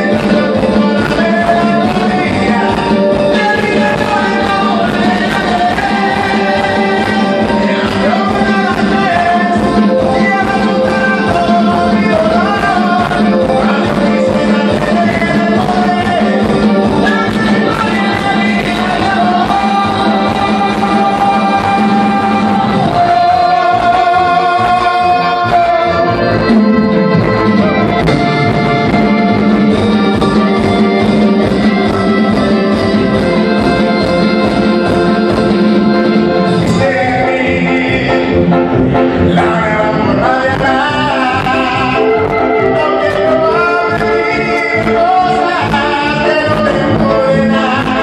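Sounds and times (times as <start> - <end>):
karaoke backing track: 0.0 - 48.0
person singing: 0.0 - 48.0.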